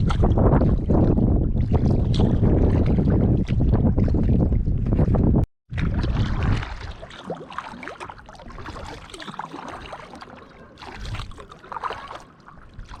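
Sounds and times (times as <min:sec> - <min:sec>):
paddle splashes: 0:00.0 - 0:13.0.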